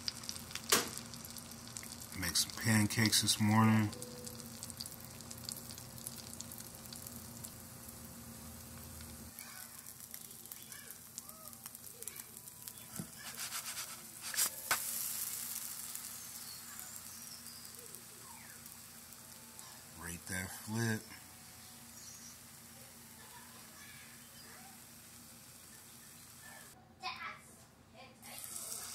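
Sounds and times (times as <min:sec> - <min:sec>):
pancake batter sizzling: 0:00.0 - 0:26.8, 0:28.2 - 0:28.9.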